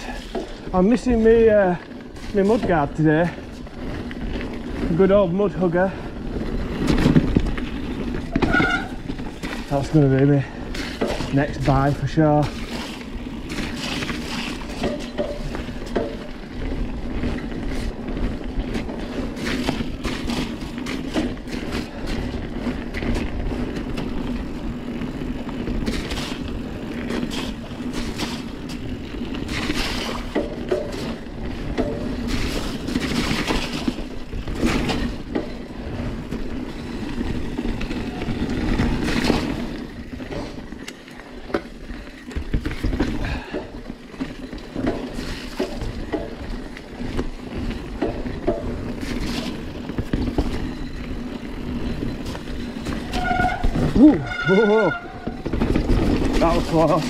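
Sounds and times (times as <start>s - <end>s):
bike knocking and clattering: 0.0s - 57.0s
bike tyres rolling on dirt: 0.0s - 57.0s
muddy drivetrain grinding: 0.0s - 57.0s.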